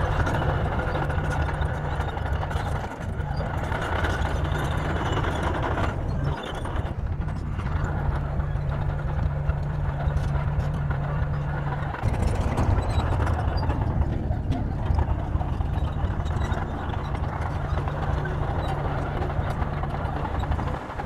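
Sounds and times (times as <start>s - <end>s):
bulldozer diesel engine drone: 0.0s - 21.0s.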